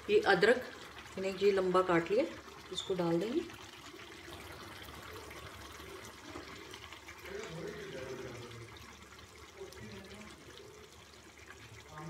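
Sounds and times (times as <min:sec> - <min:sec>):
curry bubbling and simmering: 0:00.0 - 0:12.0.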